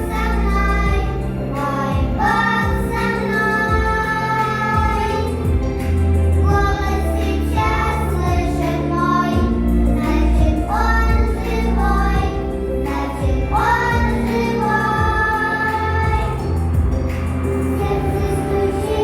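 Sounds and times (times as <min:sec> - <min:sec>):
child singing: 0:00.0 - 0:16.9, 0:17.8 - 0:19.0
backing track with steady bass: 0:00.0 - 0:19.0.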